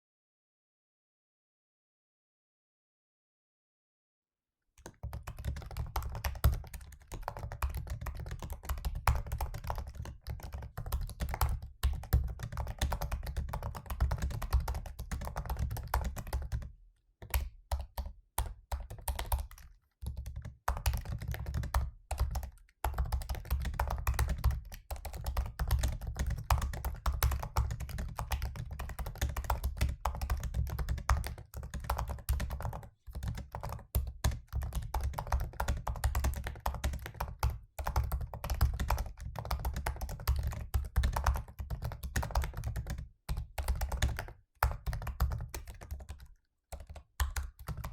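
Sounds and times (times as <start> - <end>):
laptop keyboard typing: 4.8 - 47.9.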